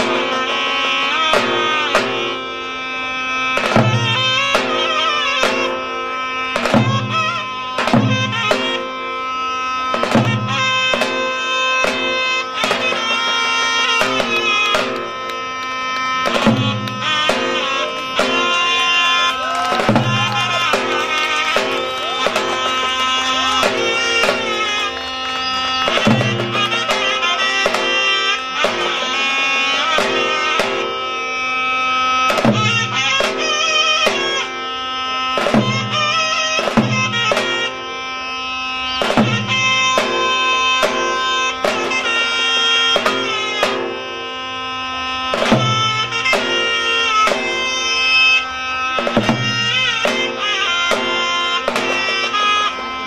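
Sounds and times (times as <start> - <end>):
zurna melody: 0.0 - 53.0.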